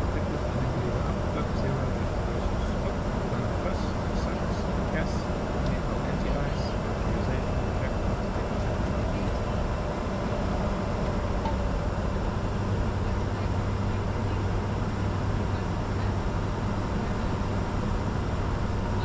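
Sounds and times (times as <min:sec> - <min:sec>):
constant low hum: 0:00.0 - 0:19.0
jet engine and airflow noise: 0:00.0 - 0:19.0.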